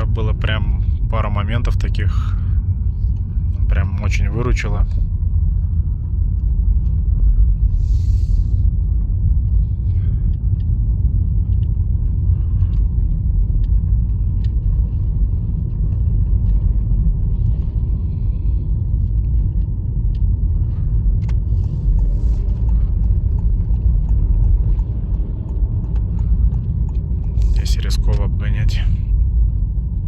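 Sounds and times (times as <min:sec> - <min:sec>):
tyre and road rumble in car: 0:00.0 - 0:30.0.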